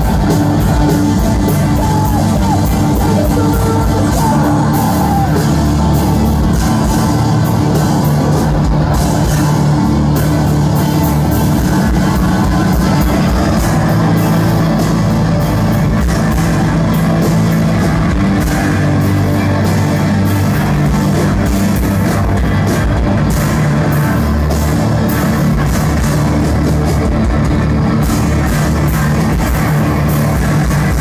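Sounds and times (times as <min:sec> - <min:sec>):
hardcore band playing live: 0:00.0 - 0:31.0.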